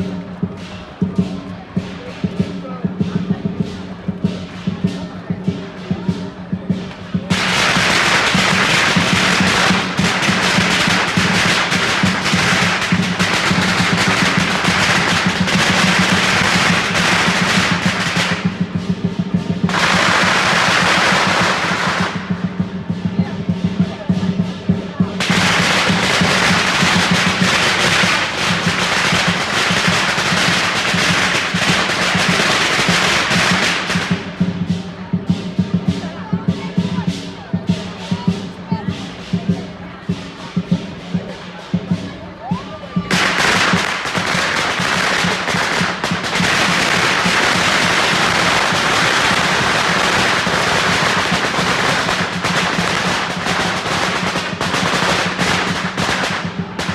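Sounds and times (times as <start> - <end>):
firecrackers crackling: 0.0 - 42.2, 42.8 - 56.9
drum and percussion playing: 0.0 - 56.9.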